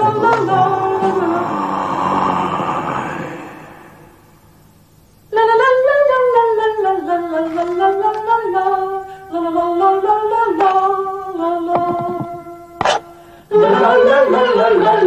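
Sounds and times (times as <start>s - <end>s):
person singing unaccompanied: 0.0s - 4.3s, 5.3s - 15.0s.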